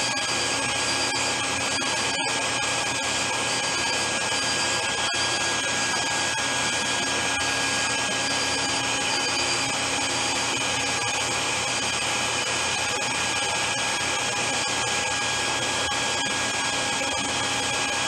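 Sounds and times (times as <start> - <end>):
grinder motor hum and whine: 0.0 - 18.0.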